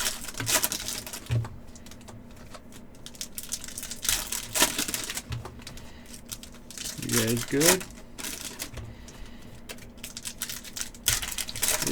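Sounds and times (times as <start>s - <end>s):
cards rustling: 0.0s - 11.9s
wrappers crinkling and tearing: 0.0s - 11.9s.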